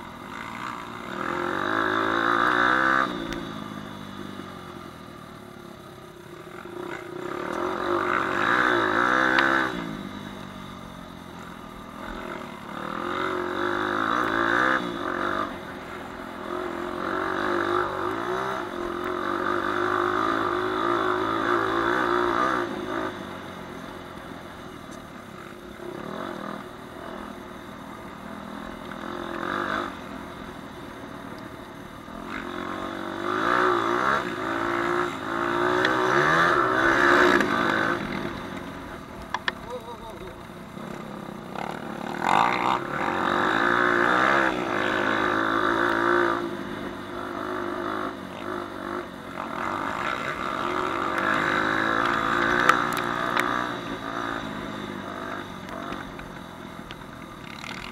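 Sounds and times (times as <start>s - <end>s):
dirt bike engine revving: 0.0s - 5.5s, 6.1s - 24.6s, 25.3s - 57.9s.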